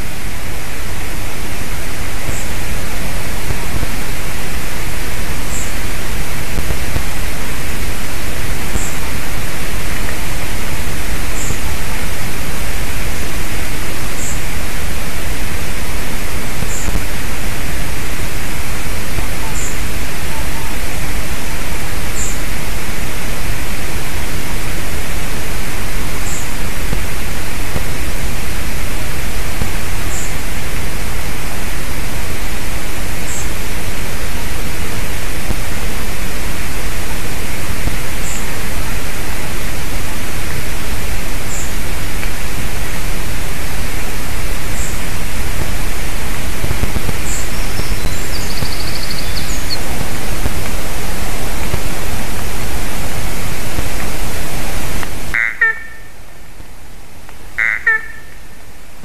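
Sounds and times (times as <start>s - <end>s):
loud steady hiss: 0.0s - 59.0s.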